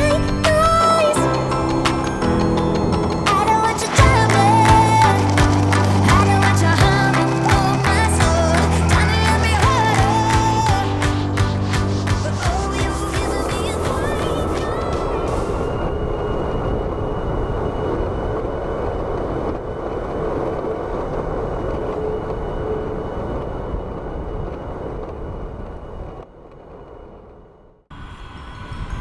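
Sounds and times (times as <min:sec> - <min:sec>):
wind on microphone: 0:00.0 - 0:26.2, 0:27.9 - 0:29.0
wheels rumbling on asphalt: 0:01.7 - 0:10.8, 0:11.9 - 0:29.0.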